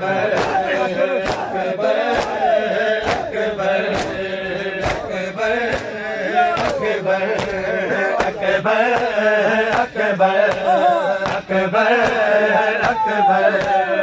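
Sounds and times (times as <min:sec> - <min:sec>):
men chanting in unison: 0:00.0 - 0:14.0
chest-beating slaps: 0:00.2 - 0:13.8.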